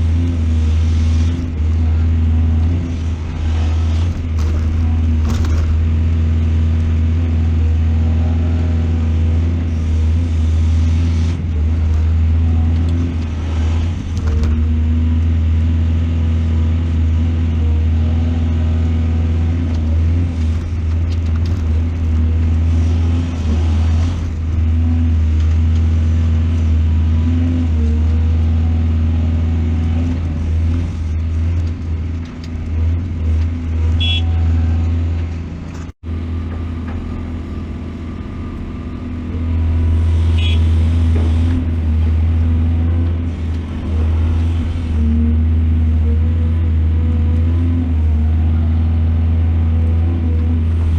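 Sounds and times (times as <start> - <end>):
excavator engine droning: 0.0 - 50.9.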